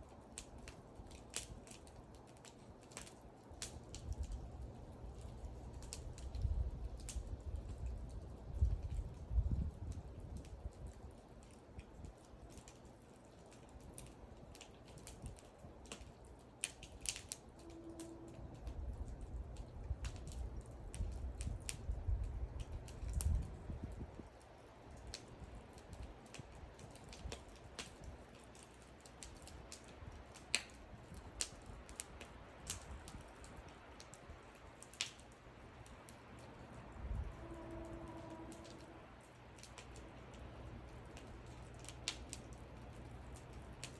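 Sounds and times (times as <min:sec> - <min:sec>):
low rumble of flames: 0:00.0 - 0:43.9
wood fire crackling: 0:00.0 - 0:43.9.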